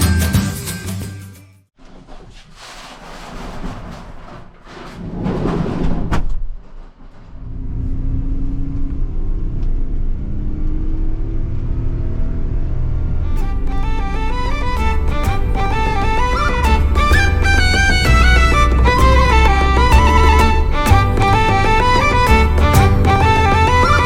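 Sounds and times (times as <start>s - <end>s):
van engine and road rumble: 3.1s - 24.0s.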